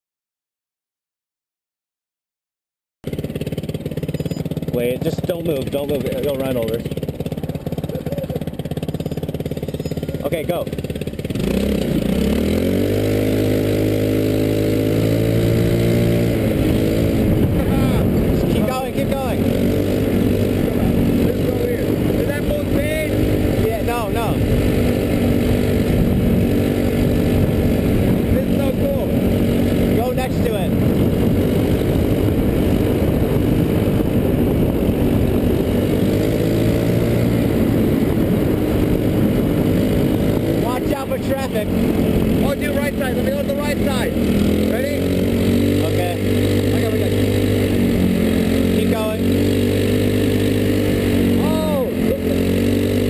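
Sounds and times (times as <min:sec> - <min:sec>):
go-kart engine running hard: 0:03.0 - 0:53.0.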